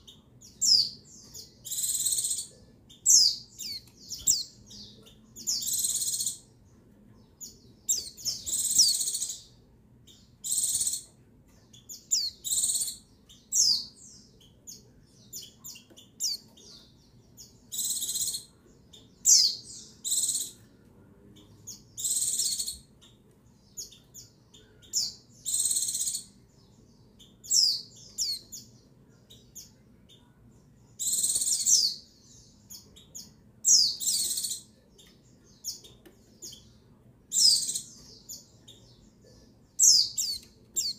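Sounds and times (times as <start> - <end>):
bird buzzy calls and chirps: 0.0 - 6.6, 7.3 - 20.7, 21.4 - 40.9.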